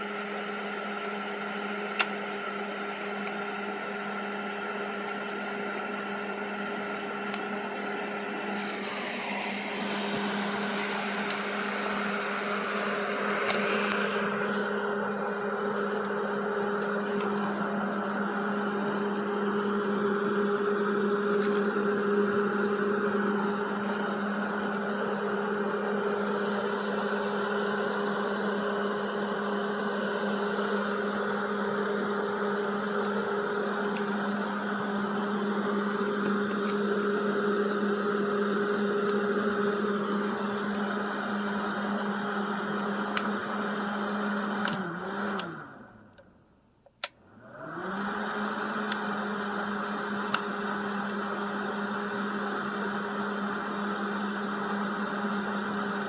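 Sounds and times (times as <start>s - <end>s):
machine motor humming: 0.0s - 56.0s.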